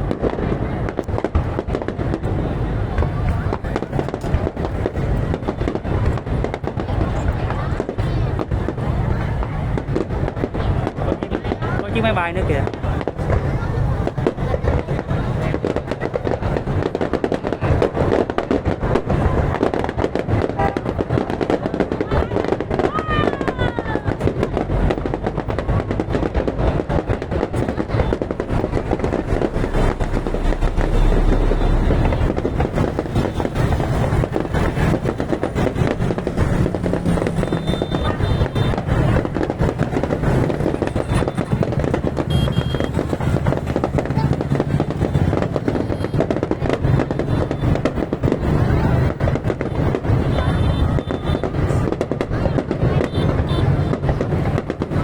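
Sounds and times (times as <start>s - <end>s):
deep firework booms: 0.0s - 55.0s
fireworks bangs and crackles: 0.0s - 55.0s.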